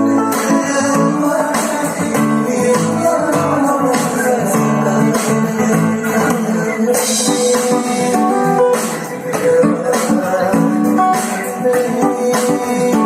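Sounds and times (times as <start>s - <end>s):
guitar music with steady beat: 0.0s - 13.0s.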